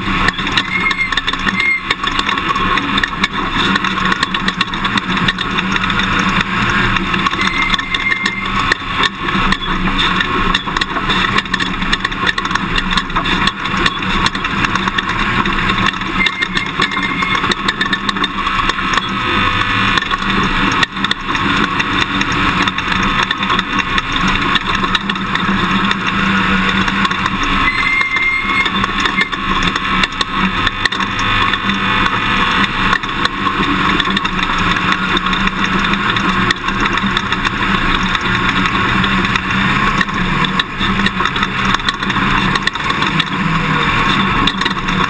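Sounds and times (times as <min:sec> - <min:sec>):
knocks and rattles: 0:00.0 - 0:45.0
pickup engine running: 0:00.0 - 0:45.0
road and wind noise: 0:00.0 - 0:45.0.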